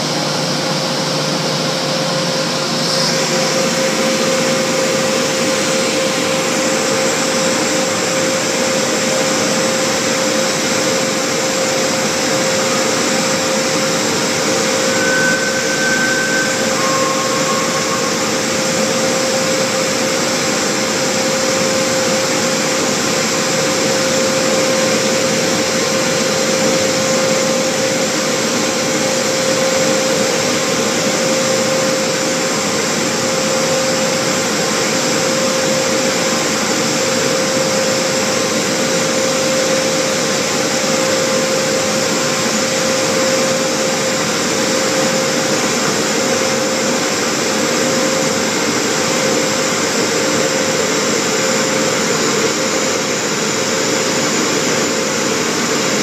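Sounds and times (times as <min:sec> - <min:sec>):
blower rushing air with hum: 0:00.0 - 0:56.0.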